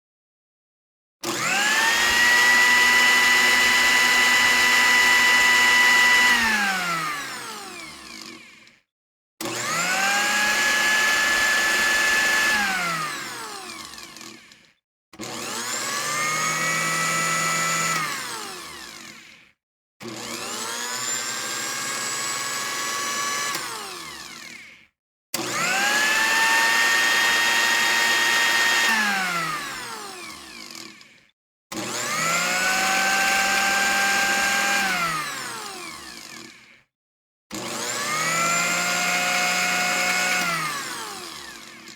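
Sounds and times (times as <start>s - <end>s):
kitchen blender motor whining: 1.2s - 8.8s, 9.4s - 36.9s, 37.5s - 41.9s.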